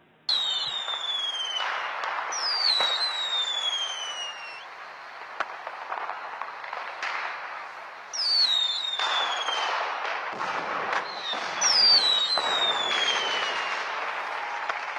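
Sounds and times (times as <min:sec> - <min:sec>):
downward sliding whistles: 0:00.3 - 0:09.7, 0:11.0 - 0:13.9
dense crackling noise: 0:00.8 - 0:14.9.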